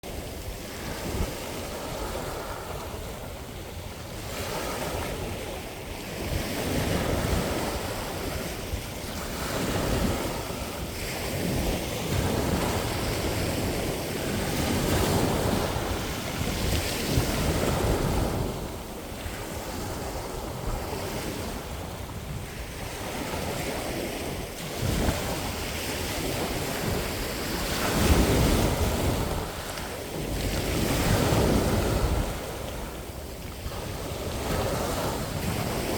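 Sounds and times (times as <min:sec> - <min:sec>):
sea waves washing ashore: 0:00.0 - 0:35.9
wind on microphone: 0:00.0 - 0:35.9.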